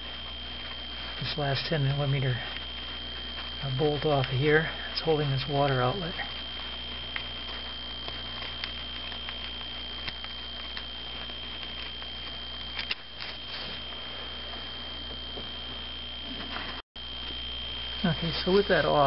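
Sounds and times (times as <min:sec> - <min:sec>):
steady hum with high whine: 0:00.0 - 0:19.0.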